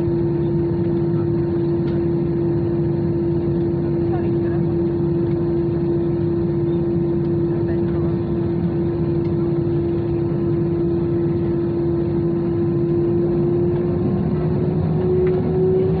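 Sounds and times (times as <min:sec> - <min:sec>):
airplane cabin engine hum: 0:00.0 - 0:16.0
engine whine: 0:00.0 - 0:16.0.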